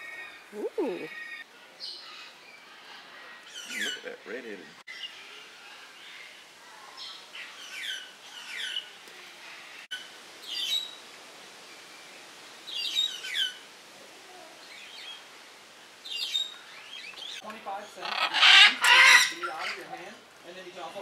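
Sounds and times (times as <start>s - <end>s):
small birds chirping: 0.0s - 11.0s, 11.6s - 21.0s.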